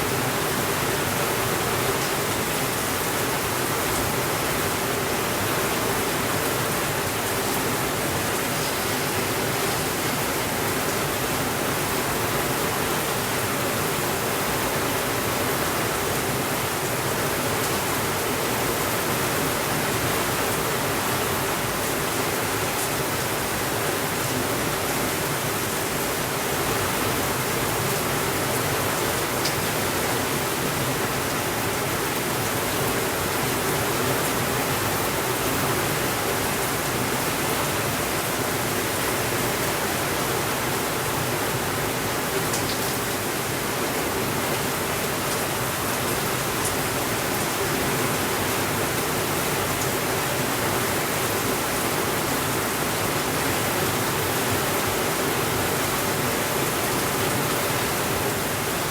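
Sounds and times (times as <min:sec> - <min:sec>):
steady rainfall: 0:00.0 - 0:58.9.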